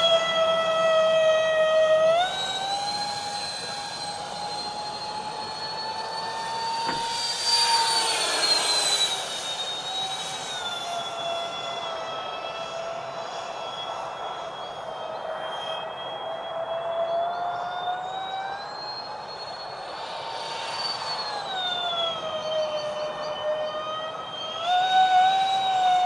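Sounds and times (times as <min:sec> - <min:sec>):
model jet fans whining: 0:00.0 - 0:26.0.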